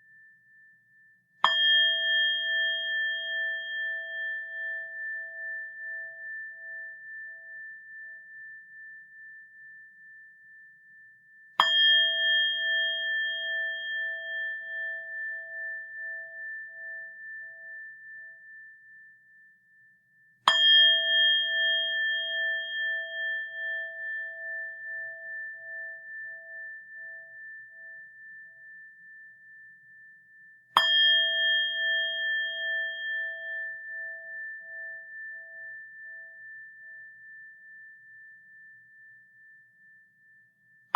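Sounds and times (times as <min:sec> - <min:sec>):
bowl bell ringing: 0:00.0 - 0:40.9.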